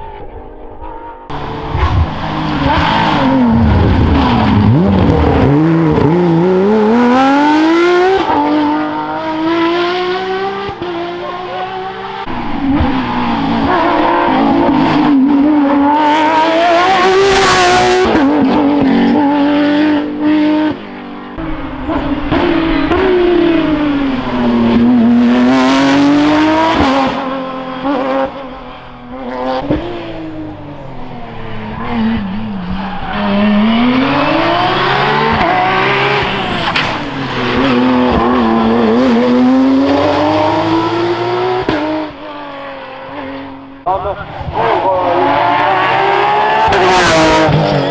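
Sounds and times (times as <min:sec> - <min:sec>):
rally car engine revving: 0:00.0 - 0:47.9.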